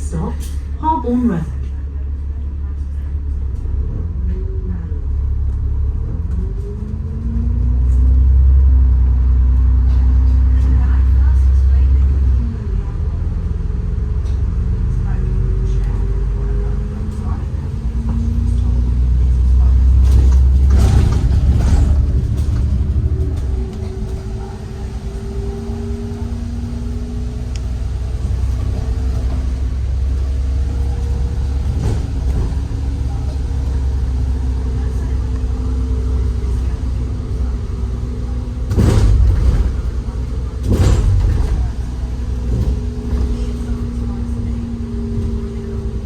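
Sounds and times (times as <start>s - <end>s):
bus engine and road rumble: 0.0s - 46.0s
low drivetrain whine: 3.5s - 46.0s.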